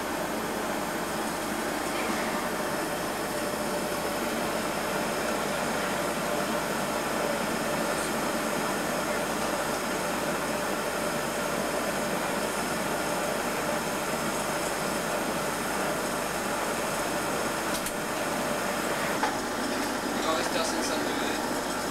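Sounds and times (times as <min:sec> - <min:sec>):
furnace roaring hiss: 0:00.0 - 0:21.9.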